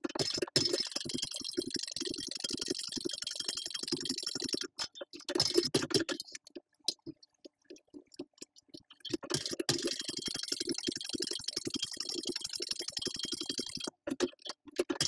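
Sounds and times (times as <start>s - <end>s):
scattered clicks: 0.0s - 7.1s, 7.7s - 15.0s.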